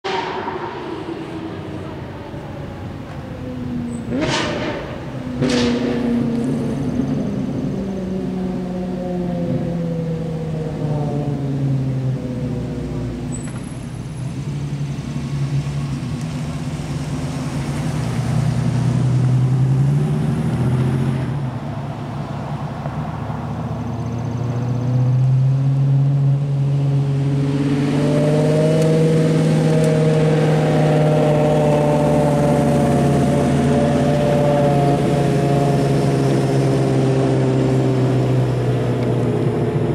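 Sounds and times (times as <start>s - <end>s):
car engines driving past: 0.0s - 39.9s.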